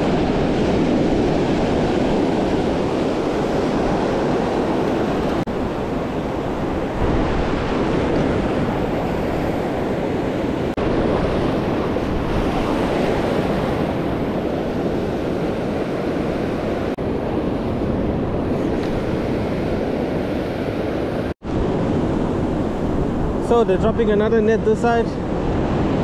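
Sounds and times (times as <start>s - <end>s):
sea surf washing in: 0.0s - 26.0s
wind on microphone: 0.0s - 26.0s.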